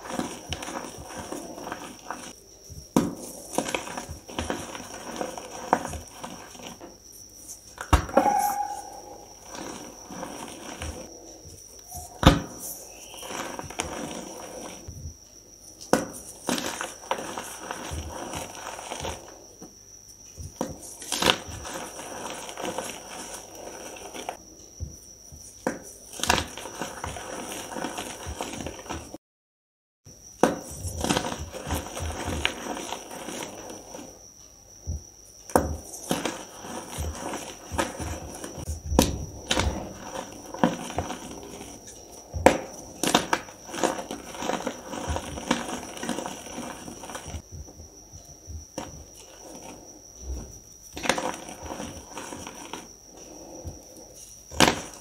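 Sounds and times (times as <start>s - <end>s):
chalk crumbling and crunching: 0.0s - 15.0s, 15.7s - 24.4s, 25.4s - 29.2s, 30.5s - 34.2s, 34.9s - 47.6s, 48.5s - 55.0s.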